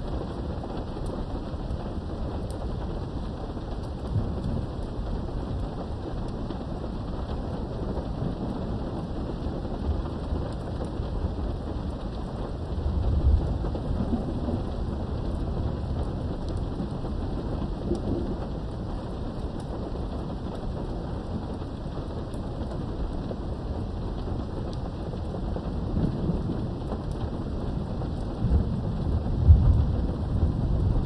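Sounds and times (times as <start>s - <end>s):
heavy rain: 0.0s - 31.0s
rolling thunder: 1.6s - 31.0s.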